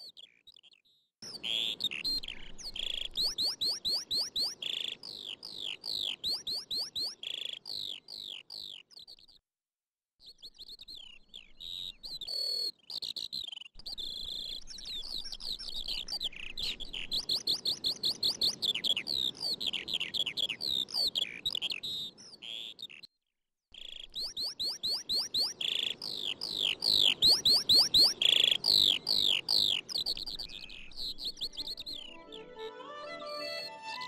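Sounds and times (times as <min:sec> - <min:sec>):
birds chirping: 0:00.2 - 0:08.9, 0:10.6 - 0:23.1, 0:23.8 - 0:34.0.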